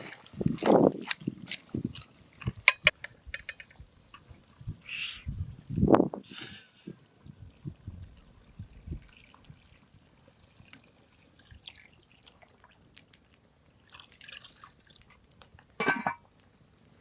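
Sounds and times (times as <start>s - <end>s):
water dripping and splashing: 0.0s - 4.7s, 6.8s - 17.0s.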